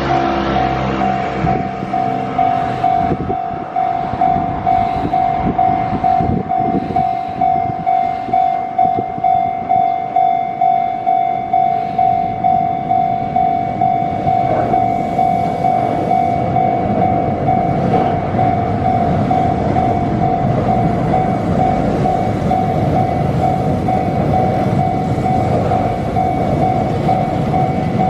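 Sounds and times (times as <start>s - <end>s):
level crossing bell ringing: 0.0s - 28.0s
rail and traffic rumble: 0.0s - 28.0s.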